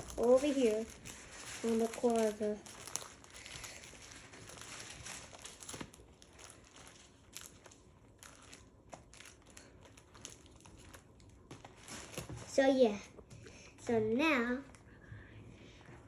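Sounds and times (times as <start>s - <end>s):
plastic sleeves crinkling: 0.0s - 13.2s.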